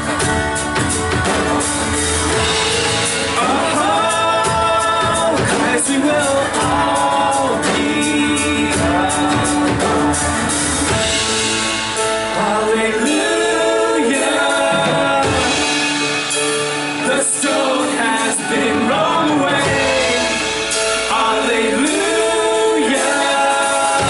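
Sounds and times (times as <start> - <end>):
band playing worship music: 0.0 - 24.0
voices singing together: 0.0 - 24.0.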